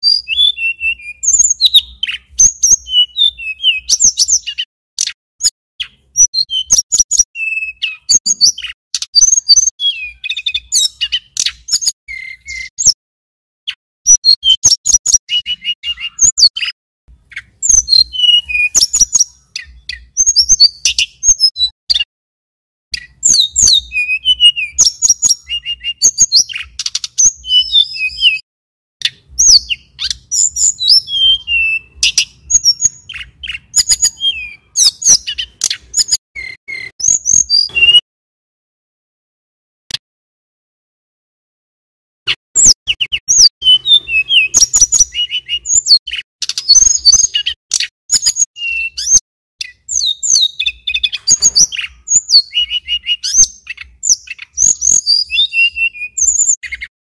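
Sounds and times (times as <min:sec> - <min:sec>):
bird singing trills and whistles: 0:00.0 - 0:13.0, 0:13.7 - 0:22.1, 0:22.9 - 0:28.4, 0:29.0 - 0:38.0, 0:42.3 - 0:56.9.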